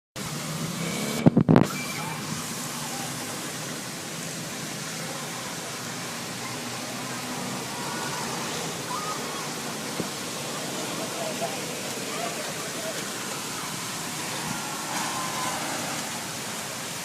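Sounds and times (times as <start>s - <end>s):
heavy rain: 0.2s - 17.0s
running floodwater: 0.2s - 17.0s.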